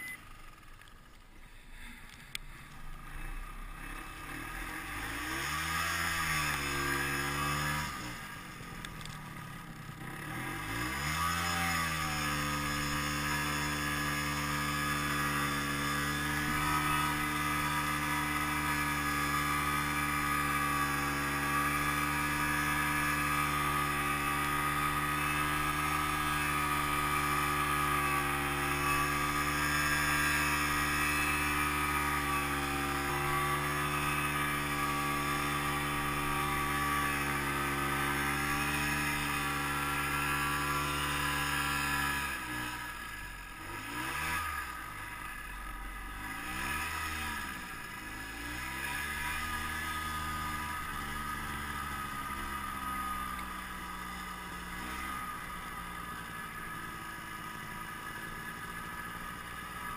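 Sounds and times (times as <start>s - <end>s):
snowmobile engine revving: 1.8s - 59.9s.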